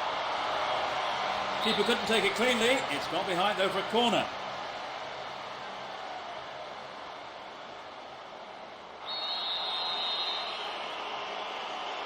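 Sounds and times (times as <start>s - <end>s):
stadium crowd noise: 0.0s - 12.0s.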